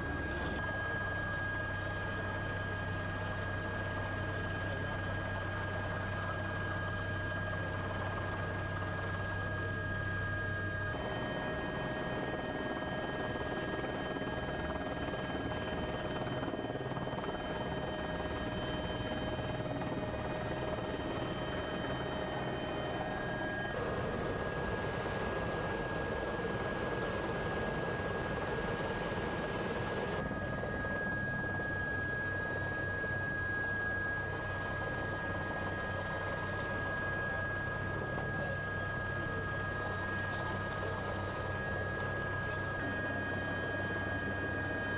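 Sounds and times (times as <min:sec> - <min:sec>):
helicopter rotor and engine: 0:00.0 - 0:44.9.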